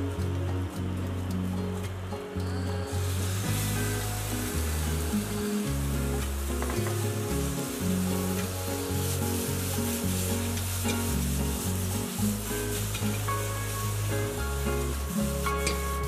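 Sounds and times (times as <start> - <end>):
background music: 0.0 - 16.0
food sizzling in a frying pan: 1.5 - 16.0.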